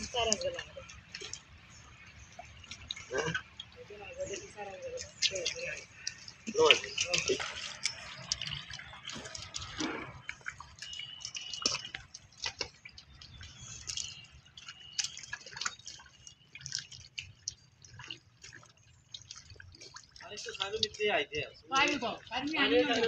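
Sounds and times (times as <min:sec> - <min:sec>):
water splashing and dripping: 0:00.0 - 0:23.0.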